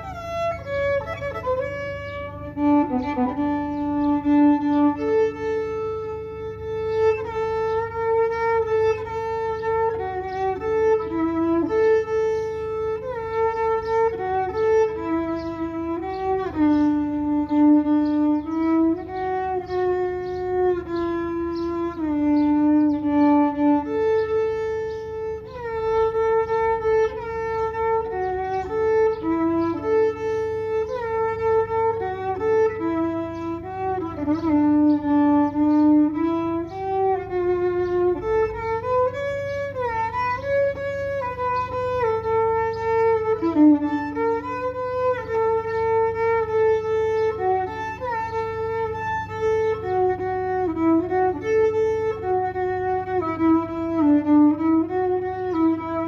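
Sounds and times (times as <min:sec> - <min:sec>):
bowed violin melody: 0:00.0 - 0:56.0.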